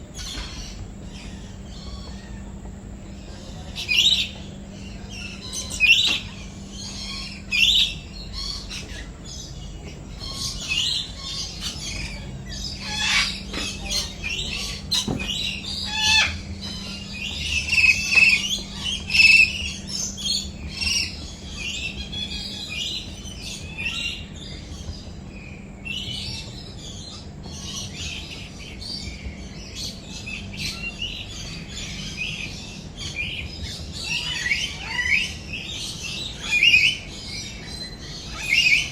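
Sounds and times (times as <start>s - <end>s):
birds chirping: 0.0s - 38.9s
faint low hum: 0.0s - 38.9s.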